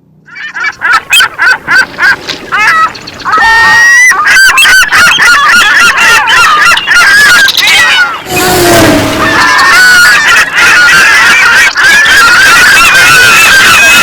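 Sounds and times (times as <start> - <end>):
geese honking: 0.3 - 14.0.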